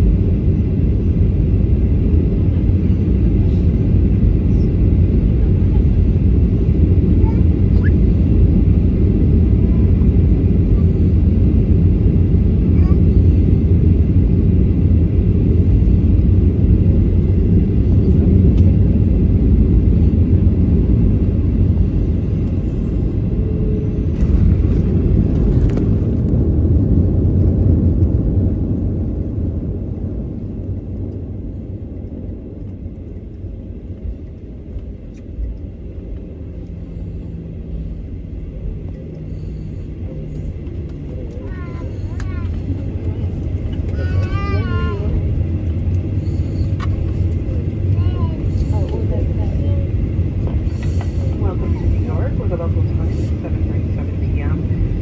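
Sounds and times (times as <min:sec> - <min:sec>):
airplane engine and airflow rumble: 0:00.0 - 0:55.0.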